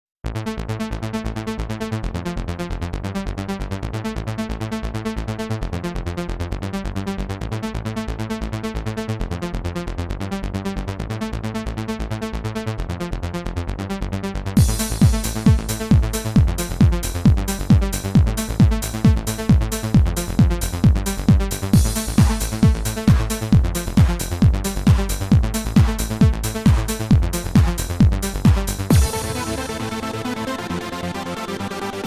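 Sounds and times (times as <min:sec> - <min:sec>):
pulsing synthesizer house music: 0:00.4 - 0:32.0.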